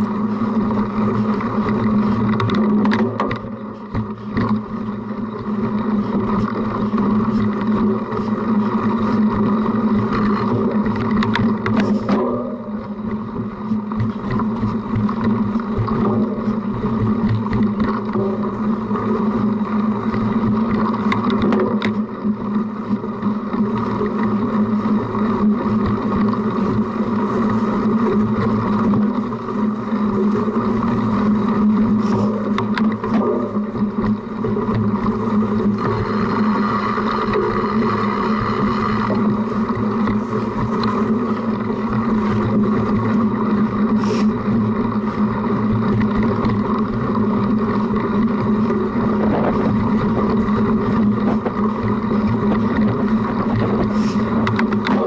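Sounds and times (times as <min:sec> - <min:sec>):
bike riding on rough ground: 0:00.0 - 0:55.0
rattling vibration: 0:00.0 - 0:55.0
wind: 0:00.0 - 0:55.0.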